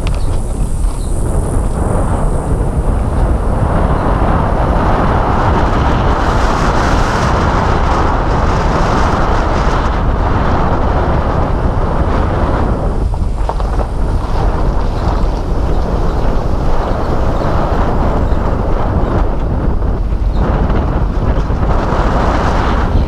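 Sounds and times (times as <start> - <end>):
tyre and road rumble: 0.0 - 23.0
wind on microphone: 0.0 - 23.0.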